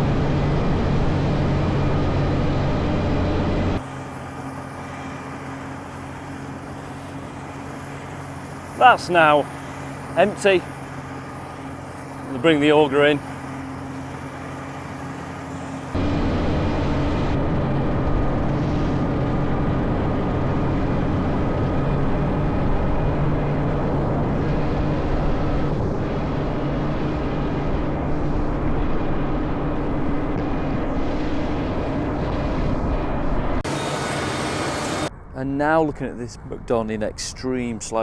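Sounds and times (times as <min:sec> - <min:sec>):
combine harvester engine drone: 0:00.0 - 0:35.4.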